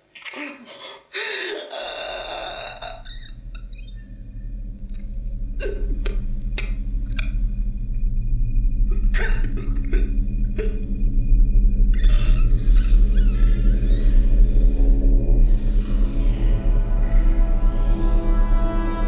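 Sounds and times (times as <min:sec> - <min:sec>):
low dark drone: 0:01.6 - 0:19.0.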